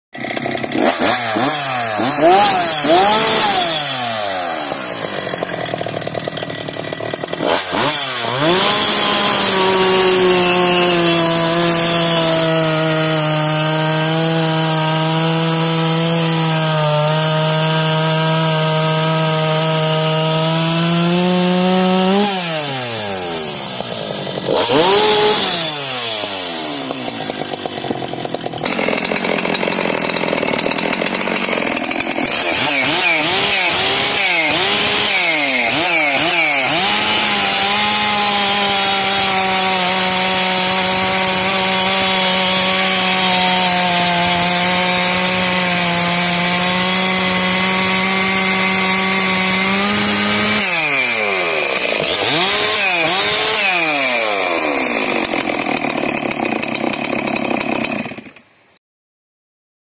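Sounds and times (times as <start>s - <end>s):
chainsaw cutting log: 0.1s - 58.8s
second chainsaw revving: 0.2s - 58.5s.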